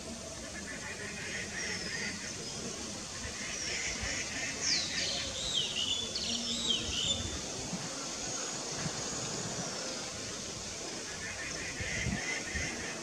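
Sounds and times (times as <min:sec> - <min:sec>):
outdoor background hiss: 0:00.0 - 0:13.0
wild birds chirping and whistling: 0:00.1 - 0:13.0.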